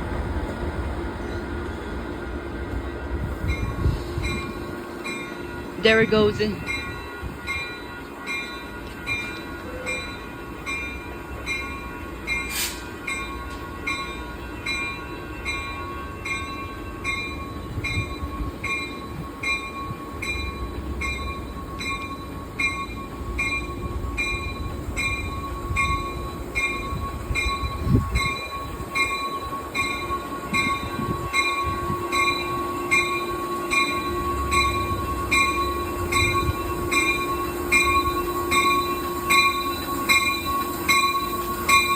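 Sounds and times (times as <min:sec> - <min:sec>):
train running past: 0:00.0 - 0:41.9.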